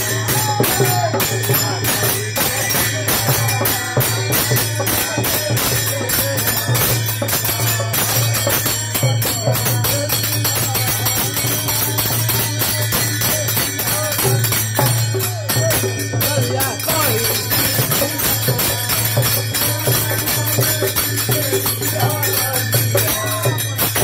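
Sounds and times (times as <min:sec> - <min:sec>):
brass hand cymbals clashing: 0:00.0 - 0:24.0
hand drum beating: 0:00.0 - 0:24.0
men singing folk song: 0:00.0 - 0:24.0.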